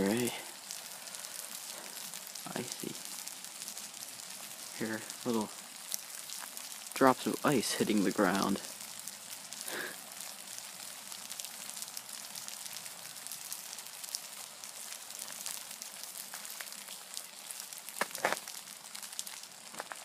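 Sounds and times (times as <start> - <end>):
ice drops pattering on icy ground: 0.0 - 20.0.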